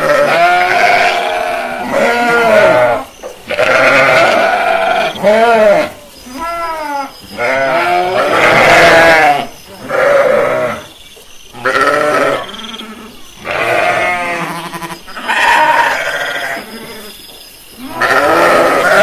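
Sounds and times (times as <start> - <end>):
sheep bleating: 0.0 - 10.9, 11.6 - 17.1, 17.8 - 19.0.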